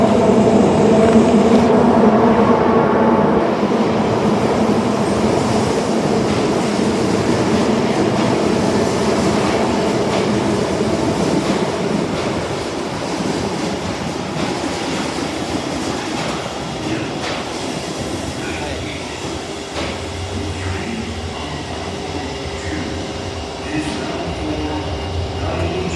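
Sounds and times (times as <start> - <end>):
subway wheels rumbling on track: 0.0 - 25.9.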